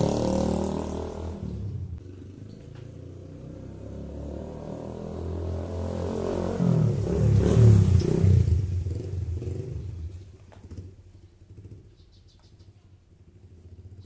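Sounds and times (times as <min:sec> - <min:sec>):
motorcycle engine passing by: 0:00.0 - 0:14.0.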